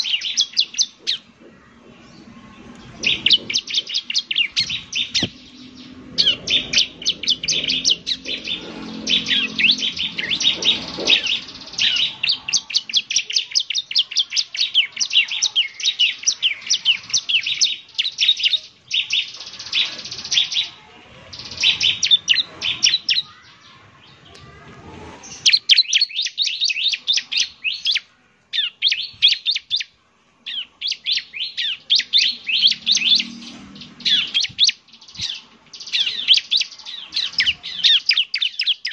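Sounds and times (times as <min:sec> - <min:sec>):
bird singing rapid high chirps: 0:00.0 - 0:24.3, 0:25.3 - 0:38.9.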